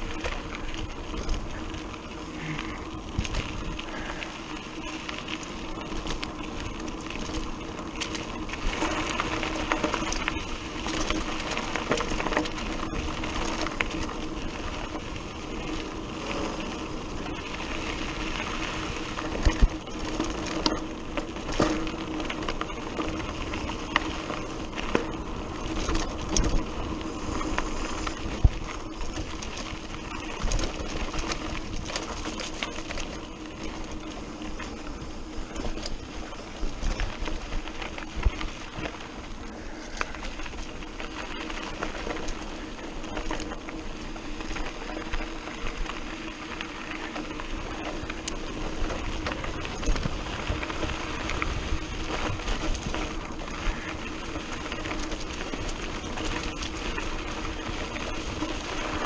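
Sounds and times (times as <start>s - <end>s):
tyres rattling on gravel: 0.0s - 59.0s.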